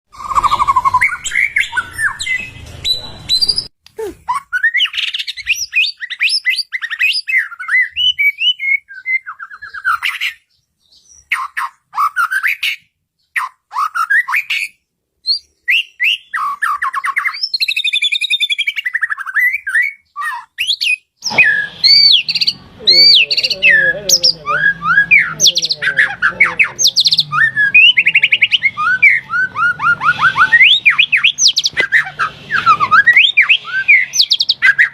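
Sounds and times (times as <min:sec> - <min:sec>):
songbird whistling and trilling: 0:00.1 - 0:34.9.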